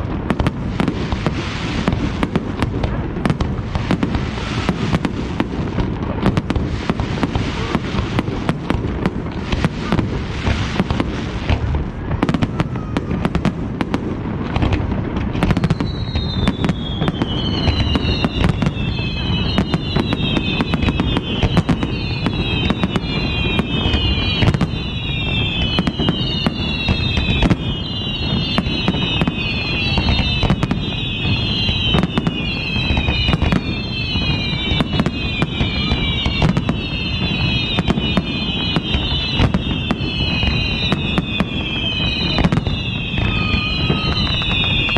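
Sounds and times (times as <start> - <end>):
fireworks bangs and crackles: 0.0 - 44.9
fireworks whistles falling in pitch: 0.0 - 44.9.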